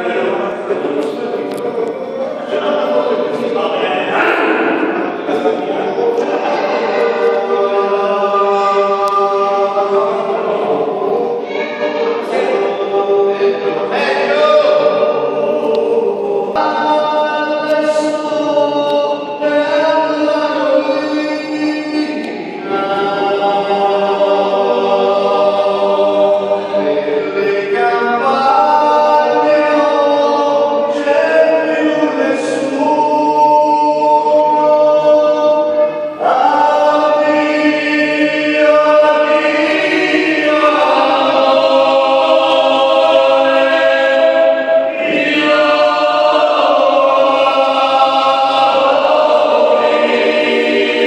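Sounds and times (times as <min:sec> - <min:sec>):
men's choir singing: 0:00.0 - 0:51.0.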